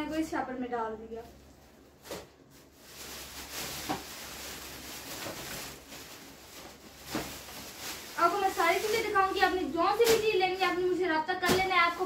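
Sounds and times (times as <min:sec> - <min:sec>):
plastic bag crinkling: 0:01.1 - 0:12.0.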